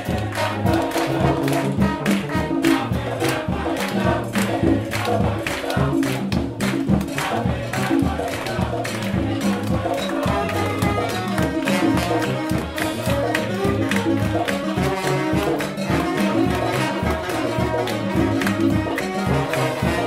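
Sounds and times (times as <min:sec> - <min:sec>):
brass band playing funk: 0:00.0 - 0:20.0
sousaphone bass line: 0:00.0 - 0:20.0.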